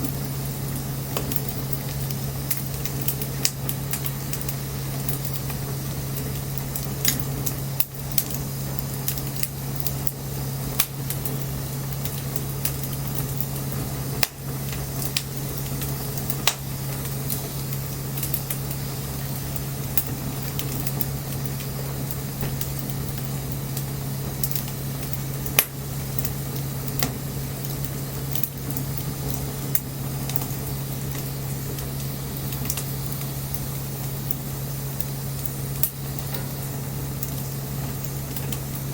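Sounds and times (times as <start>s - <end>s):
bonfire crackling: 0.0s - 38.9s
sharp pops from fire: 0.0s - 38.9s.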